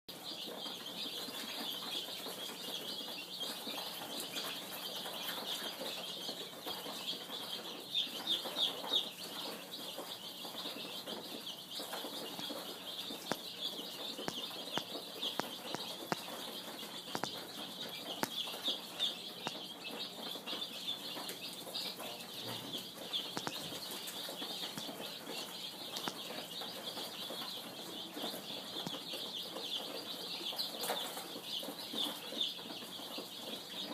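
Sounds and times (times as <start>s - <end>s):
baby birds cheeping: 0.1s - 33.9s.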